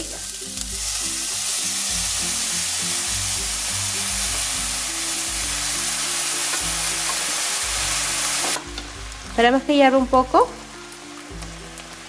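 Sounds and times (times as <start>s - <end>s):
background music with bass: 0.0s - 12.0s
sauce sizzling in a frying pan: 0.0s - 12.0s.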